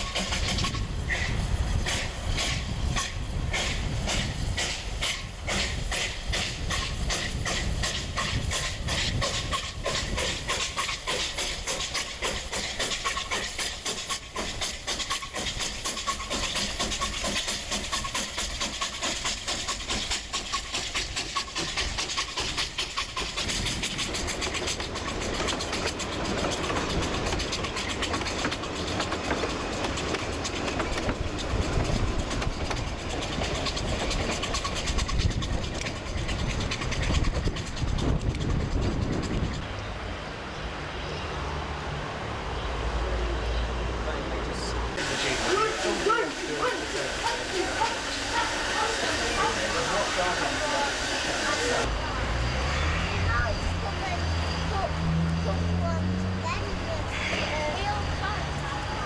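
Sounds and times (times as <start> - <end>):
steam hissing: 0.0 - 39.7, 44.9 - 59.0
train wheels clicking over rail joints: 0.0 - 39.8, 45.0 - 59.0
steam locomotive chuffing: 0.0 - 40.0, 41.9 - 59.0.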